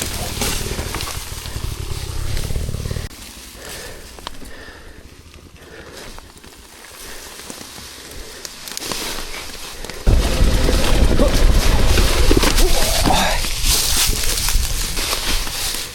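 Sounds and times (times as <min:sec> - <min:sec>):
dirt bike engine: 0:00.0 - 0:15.1
crackling tyre noise: 0:00.0 - 0:15.9.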